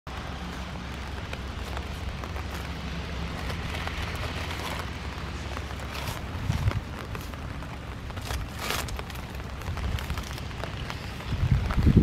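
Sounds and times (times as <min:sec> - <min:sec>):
puppies crunching cabbage leaves: 0:00.1 - 0:12.0
steady low rumble: 0:00.1 - 0:12.0.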